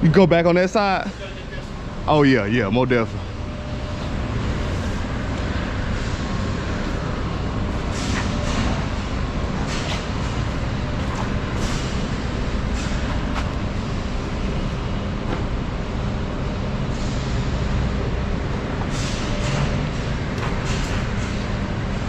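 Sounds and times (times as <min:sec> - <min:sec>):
semi truck idling: 0:01.1 - 0:22.0.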